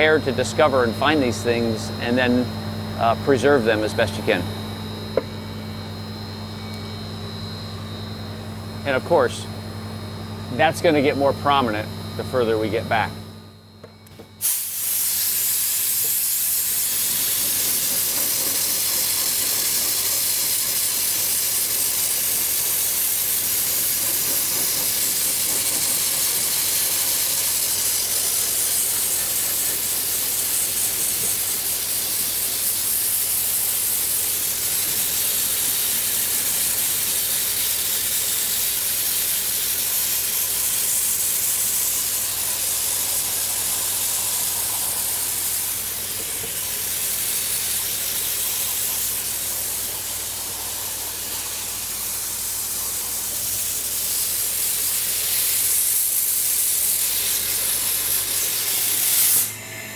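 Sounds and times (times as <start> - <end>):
loud hiss of dry ice blasting: 0.0 - 5.4, 14.1 - 59.9.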